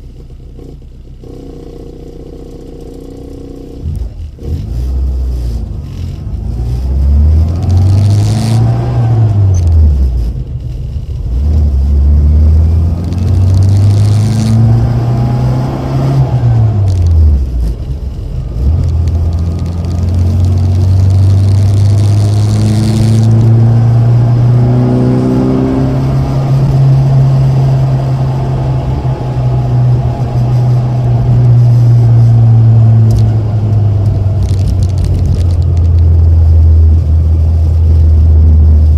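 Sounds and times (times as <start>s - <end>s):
car engine exhaust driving: 0.0s - 38.9s.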